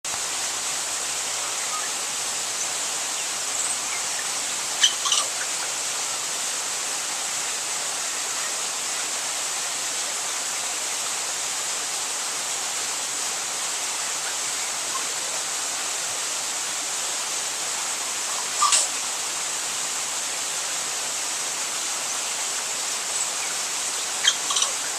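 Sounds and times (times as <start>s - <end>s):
steady hiss: 0.1s - 24.9s.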